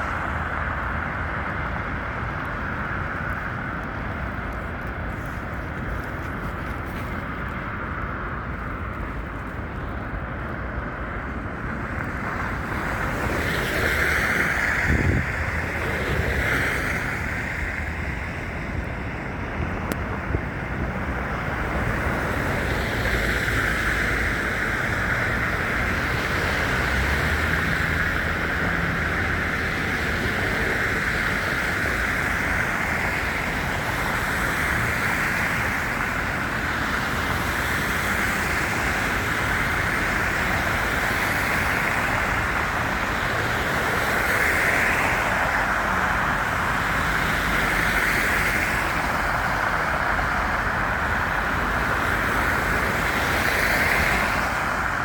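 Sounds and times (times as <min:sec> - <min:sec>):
wind buffeting microphone: 0:00.0 - 0:44.2
city traffic: 0:00.0 - 0:55.0.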